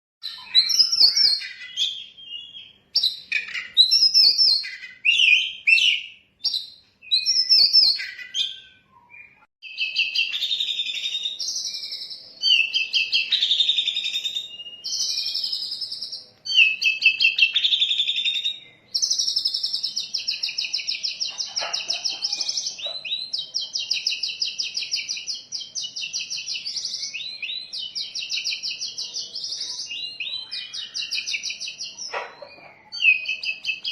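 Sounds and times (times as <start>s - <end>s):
bird singing varied song: 0.2s - 33.9s.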